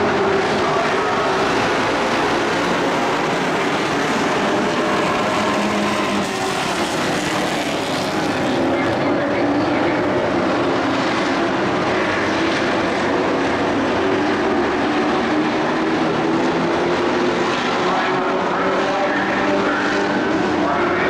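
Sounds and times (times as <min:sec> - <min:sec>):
race truck engines droning: 0:00.0 - 0:21.0.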